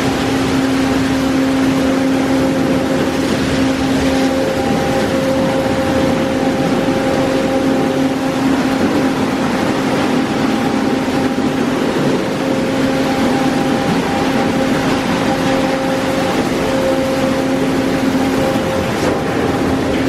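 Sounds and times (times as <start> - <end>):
motor hum: 0.0 - 20.0
spraying water rushing: 0.0 - 20.0.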